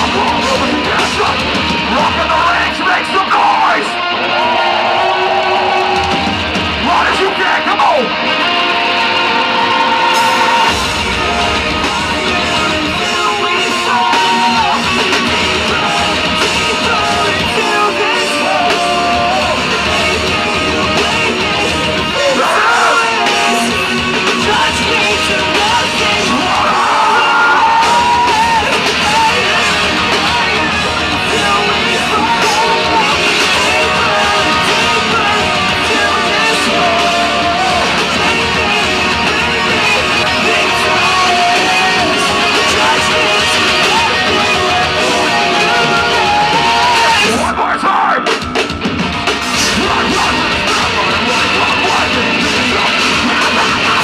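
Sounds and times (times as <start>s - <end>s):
bass guitar: 0.0s - 54.0s
distorted electric guitars: 0.0s - 54.0s
drums: 0.0s - 54.0s
vocals: 0.0s - 54.0s.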